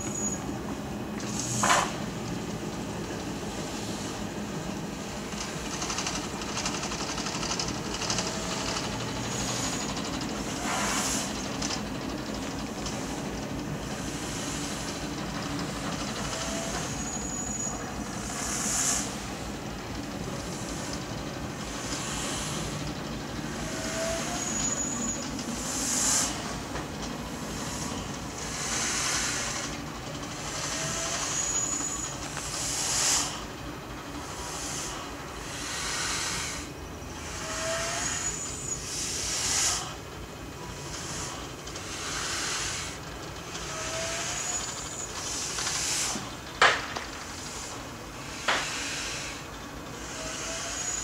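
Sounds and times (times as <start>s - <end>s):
diesel locomotive running: 0.0s - 51.0s.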